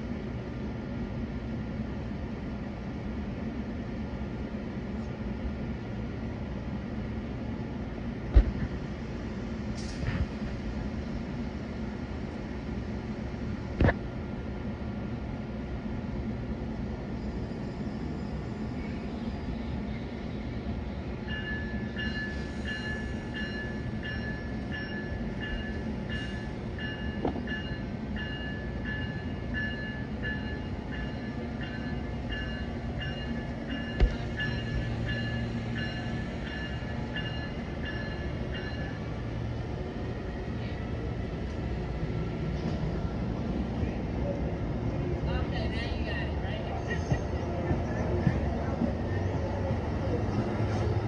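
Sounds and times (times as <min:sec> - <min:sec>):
passenger train rumbling: 0:00.0 - 0:51.0.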